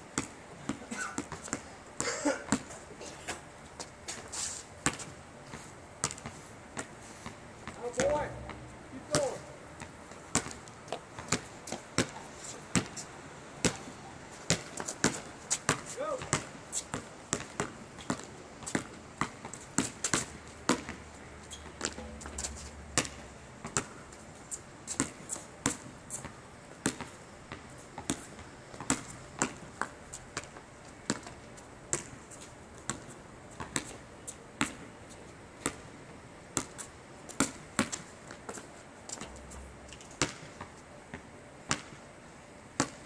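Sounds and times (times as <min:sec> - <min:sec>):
basketball bouncing on asphalt: 0:00.1 - 0:01.7, 0:02.5 - 0:02.8, 0:04.8 - 0:13.0, 0:13.6 - 0:13.9, 0:14.5 - 0:34.9, 0:35.6 - 0:35.9, 0:36.6 - 0:39.4, 0:40.0 - 0:42.0, 0:42.8 - 0:43.0.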